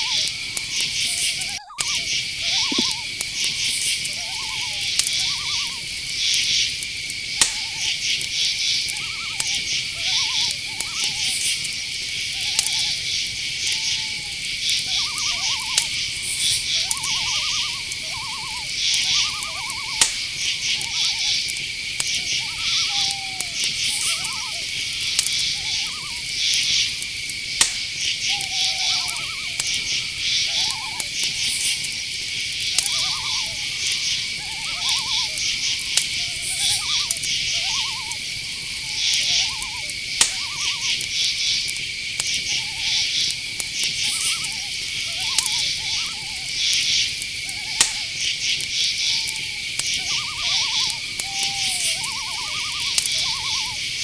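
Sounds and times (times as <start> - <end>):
crickets and insects chirping: 0.0 - 54.0
night bird calling: 0.0 - 54.0.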